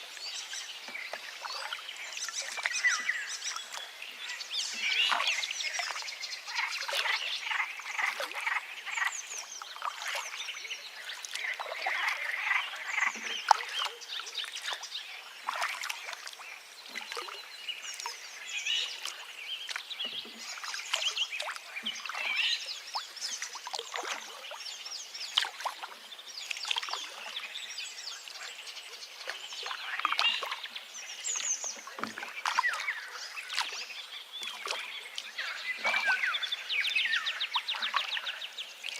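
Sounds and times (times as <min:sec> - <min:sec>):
river water running: 0:00.0 - 0:38.9
birds chirping and calling: 0:00.5 - 0:38.9.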